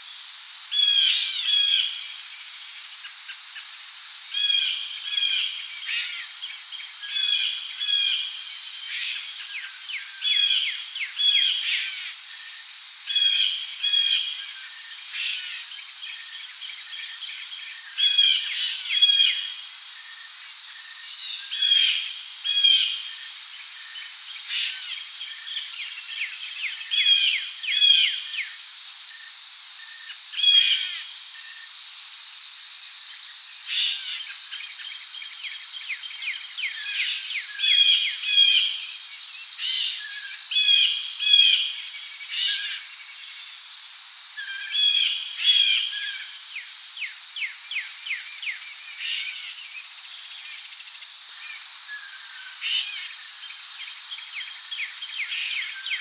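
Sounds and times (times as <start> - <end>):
crickets droning: 0.0 - 56.0.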